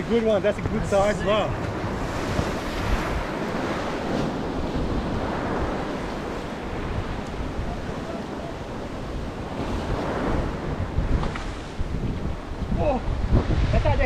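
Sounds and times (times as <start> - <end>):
waves breaking against rocks: 0.0 - 14.0
wind buffeting microphone: 0.0 - 14.0.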